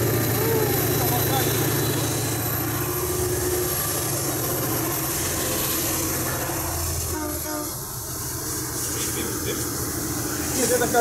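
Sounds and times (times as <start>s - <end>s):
diesel locomotive engines droning: 0.0s - 11.0s
freight cars rolling on rails: 0.0s - 11.0s.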